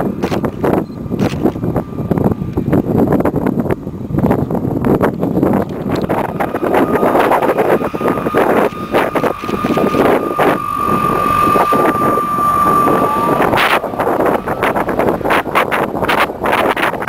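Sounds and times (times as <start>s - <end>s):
jet engine whining: 0.0s - 17.0s
wind buffeting microphone: 0.0s - 17.0s.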